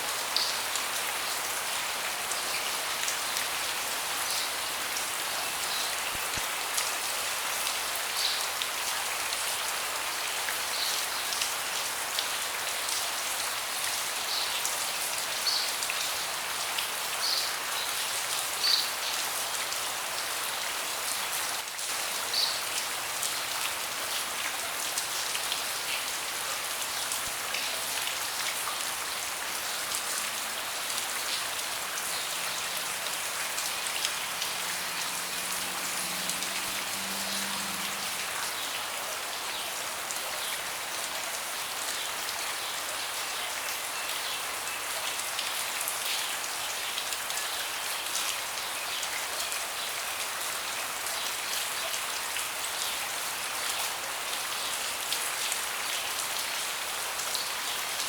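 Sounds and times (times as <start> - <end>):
steady rain hissing on a deck: 0.0 - 58.0.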